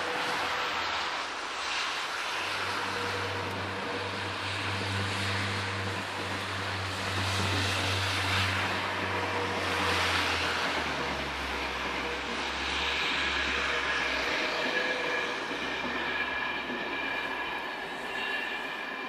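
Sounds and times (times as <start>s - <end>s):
train rolling rumble: 0.0s - 19.0s.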